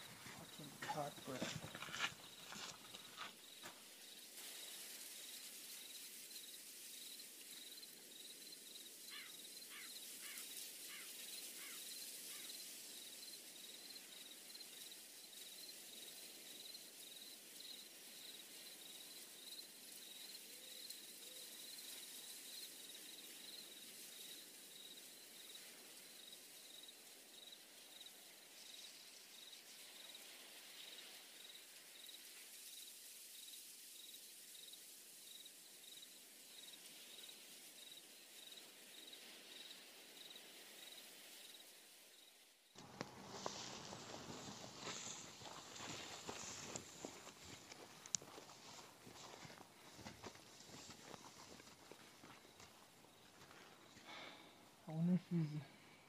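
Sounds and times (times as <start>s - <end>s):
cricket chirping: 0.0s - 56.0s
soft hiss: 0.0s - 56.0s.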